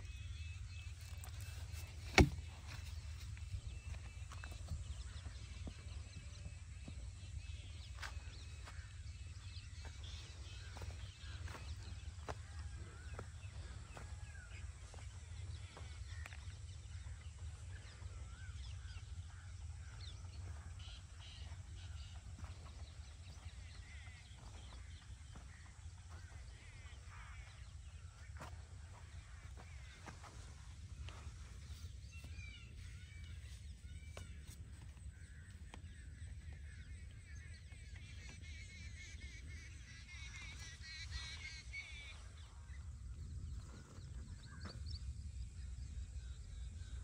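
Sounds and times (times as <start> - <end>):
birds chirping and calling: 0.0 - 47.0.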